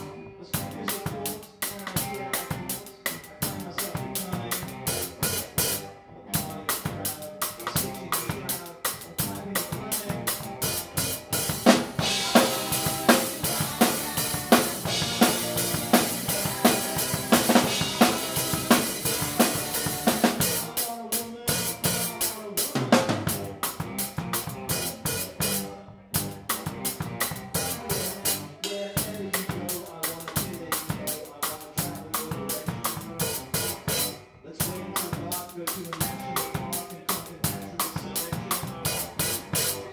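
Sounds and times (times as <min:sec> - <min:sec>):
rock band playing: 0:00.0 - 0:39.9
drum kit beat: 0:00.6 - 0:39.9.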